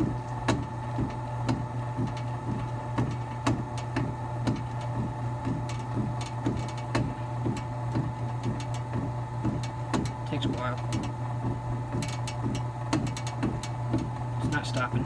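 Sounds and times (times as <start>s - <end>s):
garage door opener motor hum: 0.0s - 15.0s.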